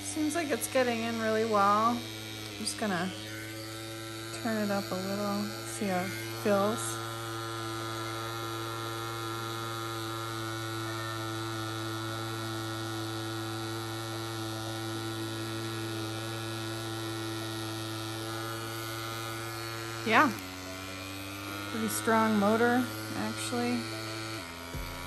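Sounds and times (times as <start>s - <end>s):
tattoo machine motor hum: 0.0s - 25.0s.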